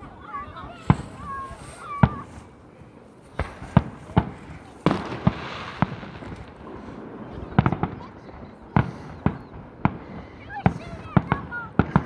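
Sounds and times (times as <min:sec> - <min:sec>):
fireworks bangs: 0:00.0 - 0:12.0
fireworks crackling spray: 0:00.0 - 0:12.0.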